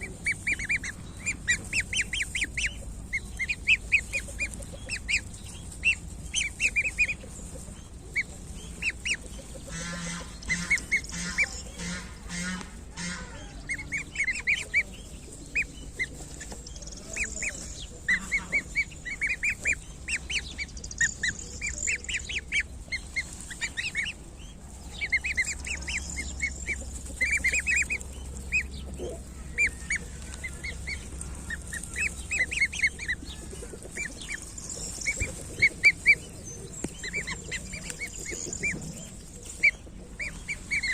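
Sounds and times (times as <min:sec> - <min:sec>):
goslings peeping: 0:00.0 - 0:40.9.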